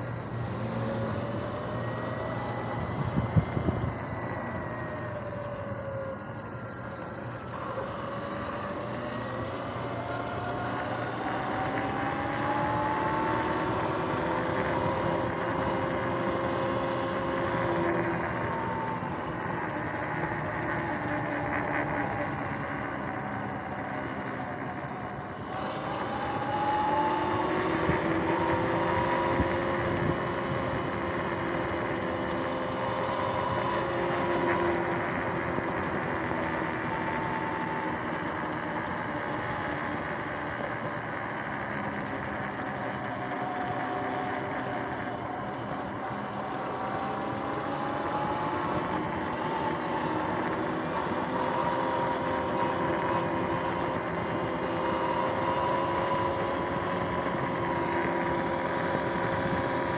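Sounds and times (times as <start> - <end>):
electric motor and chain whining: 0.0 - 59.9
road and wind noise: 0.0 - 59.9.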